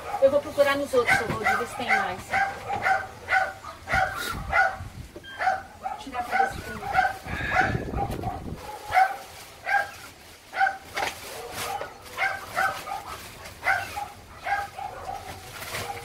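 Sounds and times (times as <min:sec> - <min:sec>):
plastic bags rustling: 0:00.0 - 0:04.8, 0:05.4 - 0:16.0.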